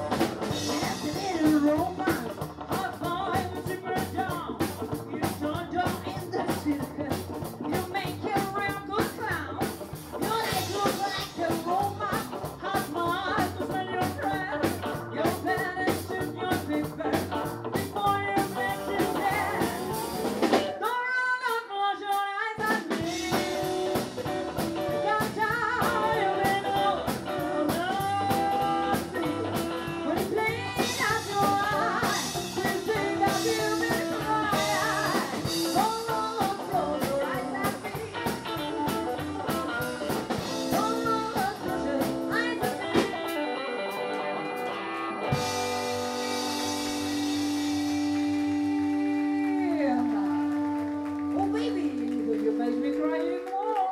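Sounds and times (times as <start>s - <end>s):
rockabilly band playing live: 0.0s - 53.9s
woman singing lead: 0.0s - 53.9s.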